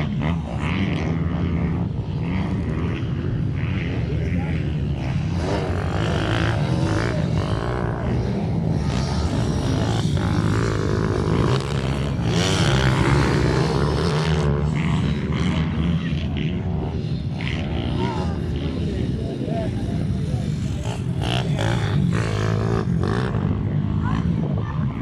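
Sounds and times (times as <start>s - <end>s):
minibike engines buzzing: 0.0s - 25.0s.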